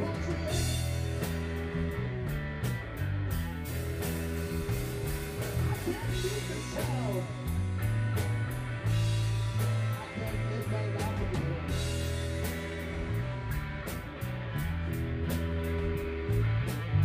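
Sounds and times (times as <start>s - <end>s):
drum kit: 0.0s - 17.0s
electric guitars: 0.0s - 17.0s
sliding bending guitar lead: 0.0s - 17.0s.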